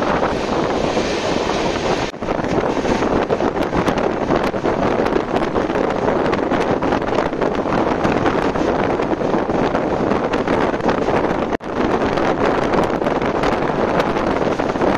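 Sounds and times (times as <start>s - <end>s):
train running noise: 0.0s - 14.9s
wind rushing on microphone: 0.0s - 14.9s.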